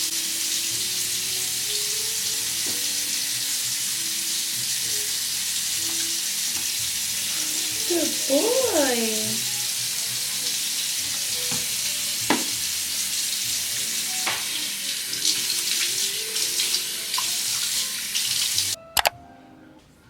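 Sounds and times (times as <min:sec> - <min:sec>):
water running: 0:00.0 - 0:18.8.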